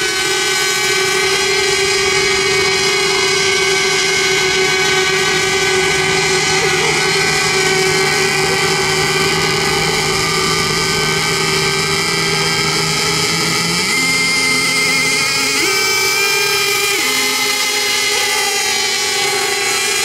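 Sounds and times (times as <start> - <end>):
rc boat motors buzzing: 0.0 - 20.0.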